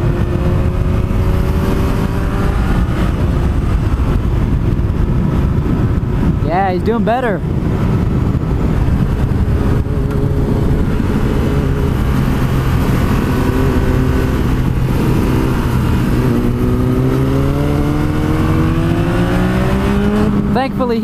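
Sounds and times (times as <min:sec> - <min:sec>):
motorcycle engine running: 0:00.0 - 0:06.4, 0:07.4 - 0:21.0
wind rush on microphone: 0:00.0 - 0:21.0.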